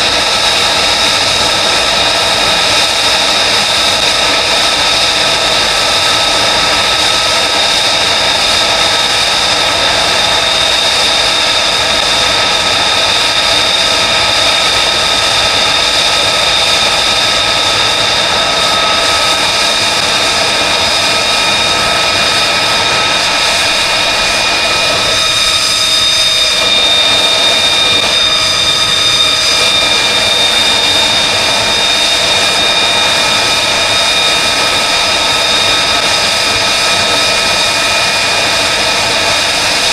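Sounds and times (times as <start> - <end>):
jet engine whine: 0.0 - 39.9
rushing noise: 0.0 - 39.9.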